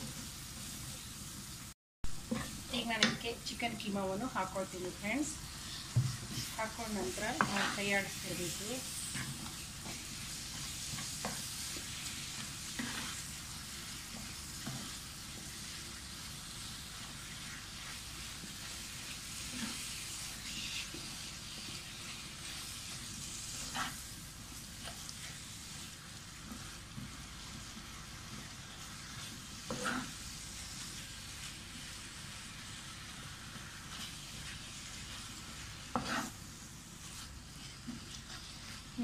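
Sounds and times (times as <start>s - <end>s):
meat sizzling in a pan: 0.0s - 39.0s
spatula scraping a pan: 5.3s - 39.0s.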